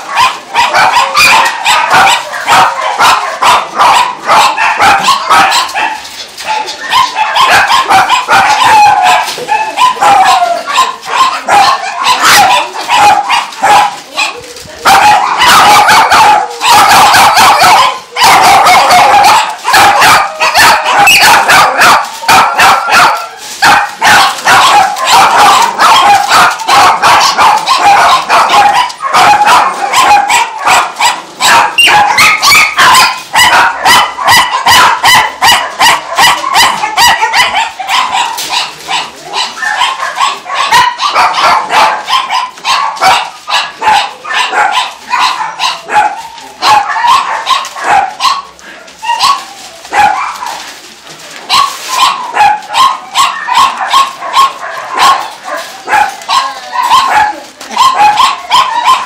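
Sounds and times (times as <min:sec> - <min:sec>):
many dogs barking: 0:00.0 - 0:59.0.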